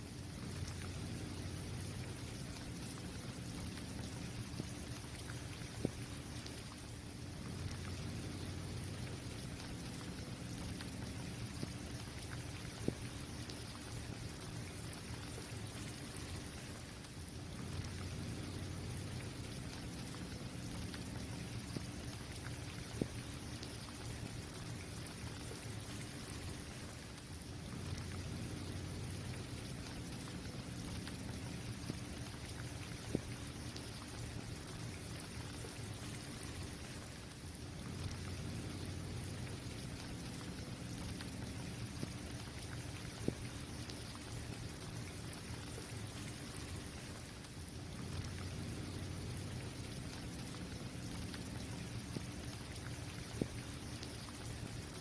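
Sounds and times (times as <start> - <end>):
steady rain falling: 0.0 - 55.0
raindrop ticks: 0.1 - 55.0.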